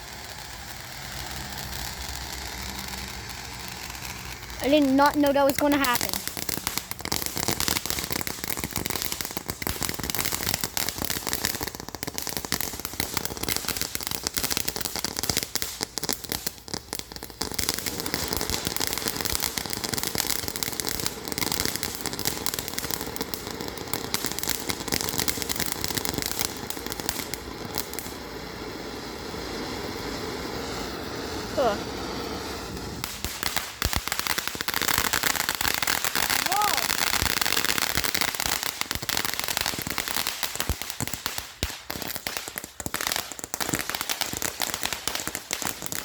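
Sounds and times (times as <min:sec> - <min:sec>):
firework fountain crackling: 0:00.0 - 0:46.0.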